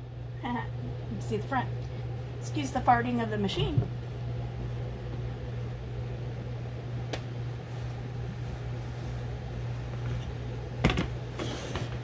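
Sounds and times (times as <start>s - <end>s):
multicooker fan humming: 0.0s - 12.0s.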